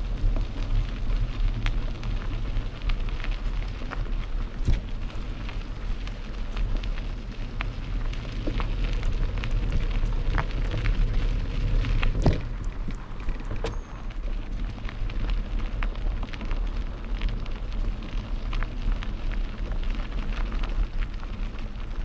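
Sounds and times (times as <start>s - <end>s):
bike clicks and rattles: 0.0s - 22.0s
bike tyres crackling over gravel: 0.0s - 22.0s
wind rumble on microphone: 0.0s - 22.0s.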